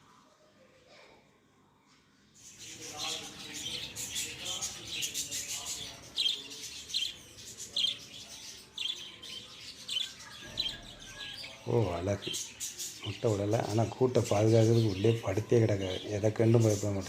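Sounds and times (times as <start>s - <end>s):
lovebirds chirping: 2.3s - 17.0s.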